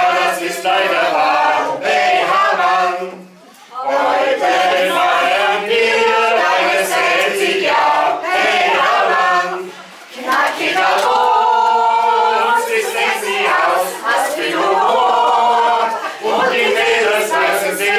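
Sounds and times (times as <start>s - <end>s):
choir singing: 0.0s - 17.9s.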